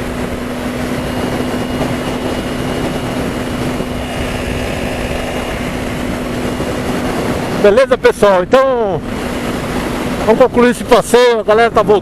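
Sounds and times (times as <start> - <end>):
motorcycle engine humming: 0.0 - 10.5
wind and road noise: 0.0 - 12.0.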